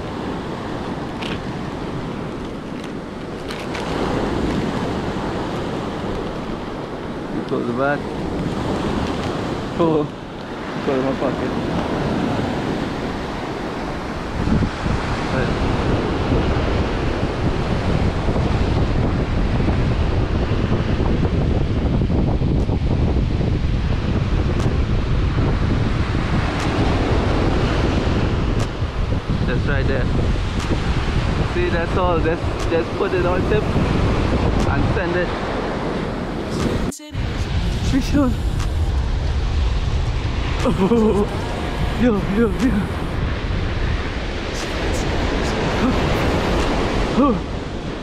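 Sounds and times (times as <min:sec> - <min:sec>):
surf breaking on beach: 0:00.0 - 0:48.0
wind on microphone: 0:00.0 - 0:48.0.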